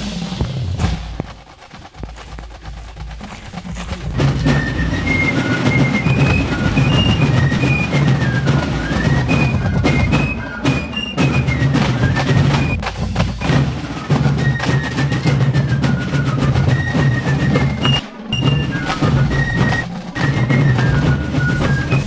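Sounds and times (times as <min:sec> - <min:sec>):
steady drumming: 0:00.0 - 0:22.0
shrill fife melody: 0:02.9 - 0:22.0.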